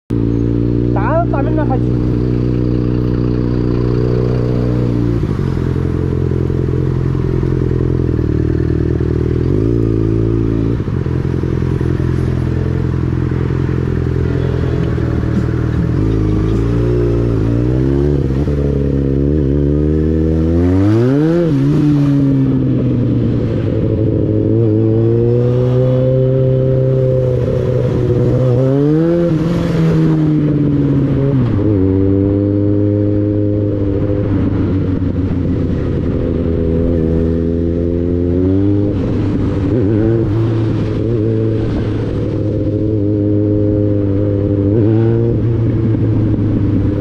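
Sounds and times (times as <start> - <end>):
motorcycle engine revving: 0.1 - 47.0.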